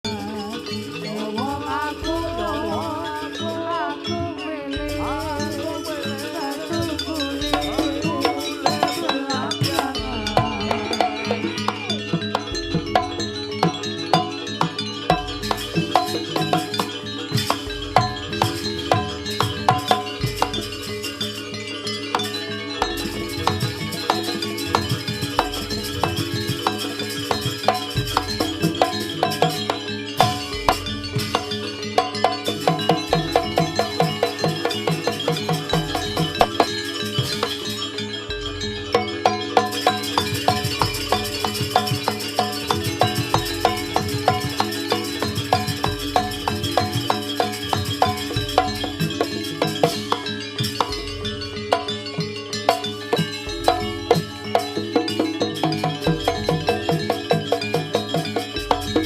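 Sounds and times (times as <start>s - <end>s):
percussion beat: 0.0s - 59.0s
drum and metal strikes: 6.9s - 21.4s, 22.2s - 37.8s, 38.6s - 59.0s.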